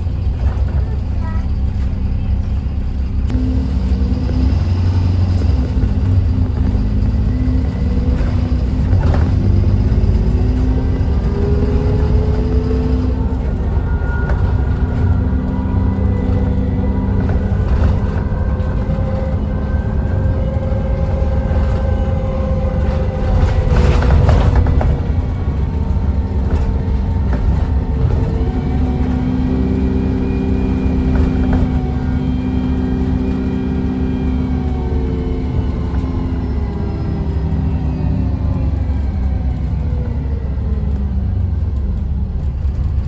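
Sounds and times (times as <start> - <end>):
bus engine running: 0.0 - 43.0
rising engine whine: 0.0 - 43.0.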